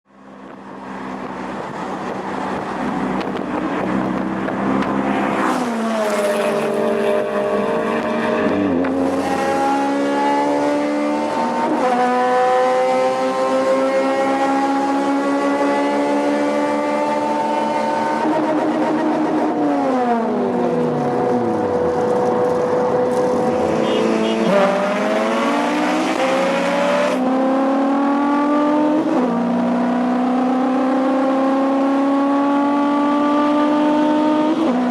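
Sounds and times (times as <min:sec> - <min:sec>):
car engine accelerating hard: 0:00.4 - 0:34.9.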